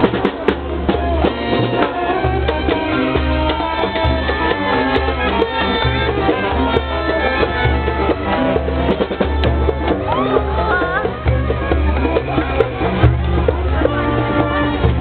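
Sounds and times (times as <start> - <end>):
upbeat music with drums: 0.0 - 15.0.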